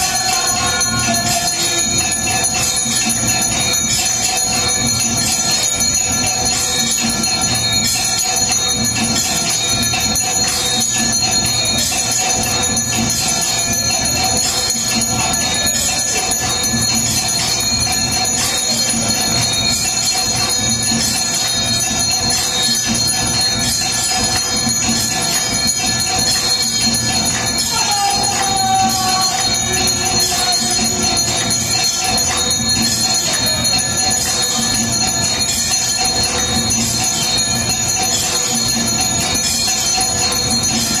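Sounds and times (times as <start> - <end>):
steady pulsing beat: 0.0 - 41.0
temple bells clanging: 0.0 - 41.0.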